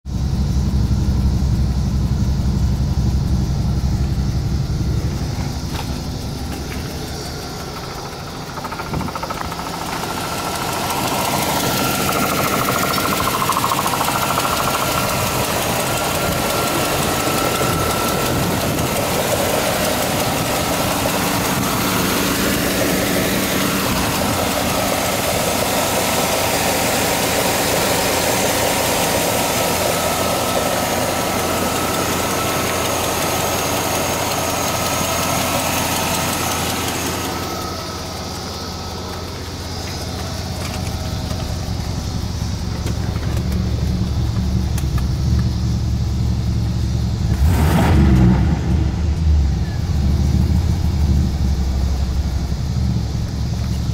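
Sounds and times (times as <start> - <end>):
truck engine idling: 0.1 - 53.9.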